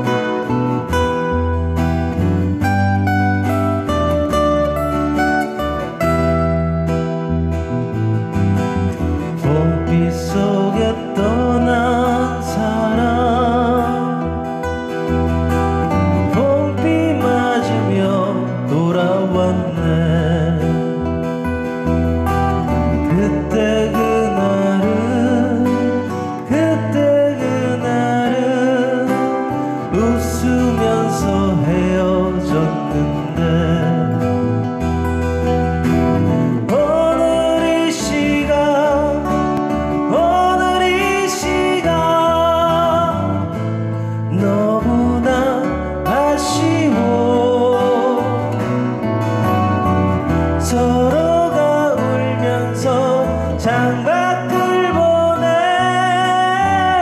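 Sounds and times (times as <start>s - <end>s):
man singing ballad: 0.0s - 7.6s, 8.6s - 57.0s
acoustic guitars: 0.0s - 57.0s
low bass line: 0.0s - 57.0s.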